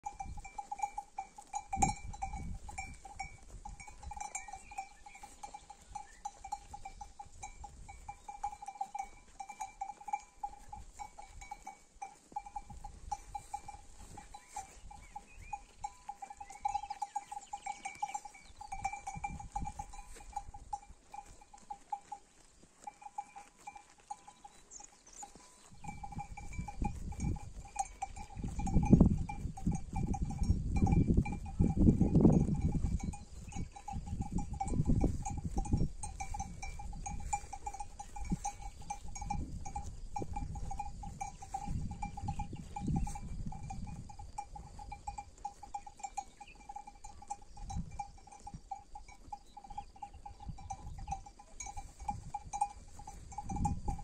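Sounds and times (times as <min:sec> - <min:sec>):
sheep bells tinkling: 0:00.0 - 0:54.0.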